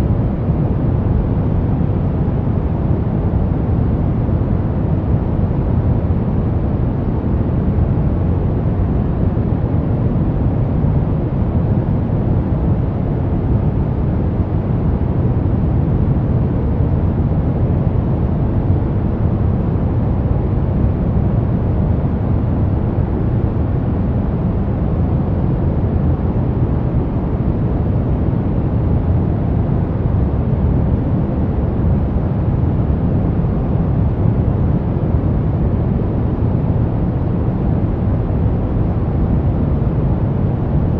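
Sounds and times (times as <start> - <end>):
brown noise: 0.0 - 40.9.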